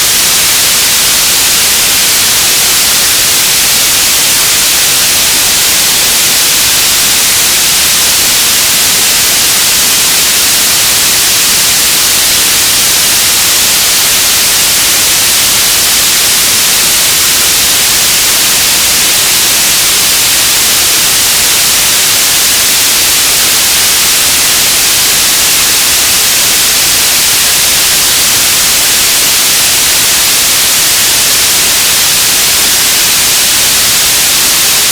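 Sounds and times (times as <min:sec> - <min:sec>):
radio static hiss: 0:00.0 - 0:34.9.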